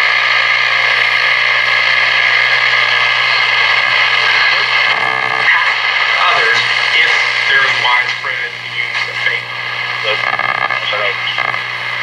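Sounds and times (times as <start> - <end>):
radio speaker hum and hiss: 0.0 - 12.0.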